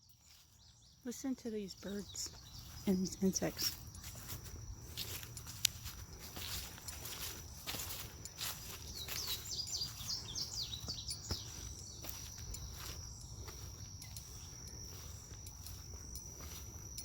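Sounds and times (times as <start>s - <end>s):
songbird singing: 0.0s - 17.0s
high-pitched insect drone: 0.3s - 17.0s.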